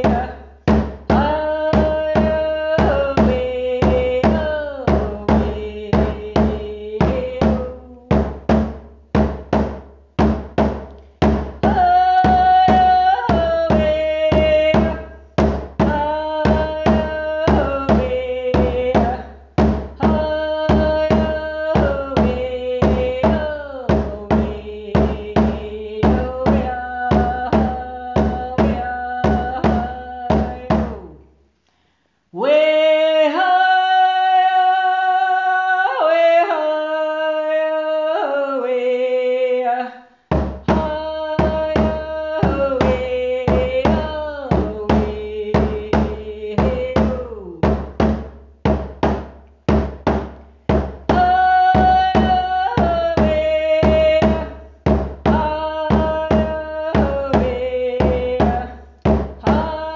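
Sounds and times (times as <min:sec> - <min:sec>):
person singing: 0:00.0 - 0:08.3, 0:11.6 - 0:19.4, 0:20.0 - 0:31.2, 0:32.4 - 0:47.8, 0:51.1 - 0:54.7, 0:55.3 - 0:59.9
steady drum beat: 0:00.0 - 0:31.1, 0:40.3 - 0:59.9.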